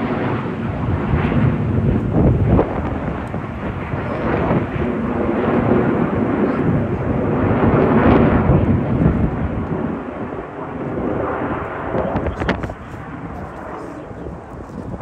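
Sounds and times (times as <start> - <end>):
jet aircraft roar: 0.0 - 15.0.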